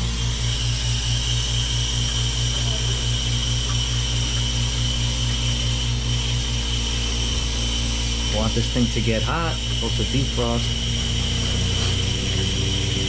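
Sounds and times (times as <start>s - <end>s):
faint high whine: 0.0s - 13.0s
ice maker machine hum: 0.0s - 13.0s
rapid low pulsing: 0.0s - 13.0s.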